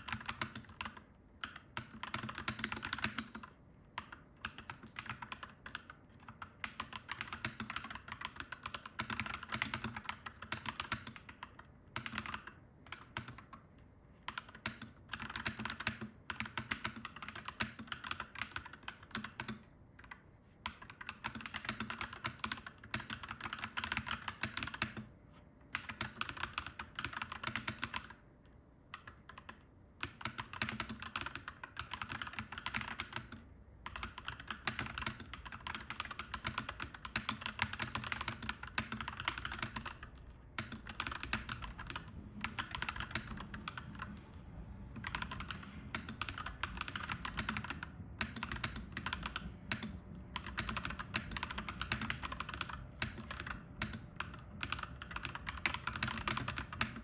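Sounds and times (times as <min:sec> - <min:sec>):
mechanical keyboard typing: 0:00.0 - 0:25.1, 0:25.7 - 0:28.2, 0:28.9 - 0:44.3, 0:45.0 - 0:57.0.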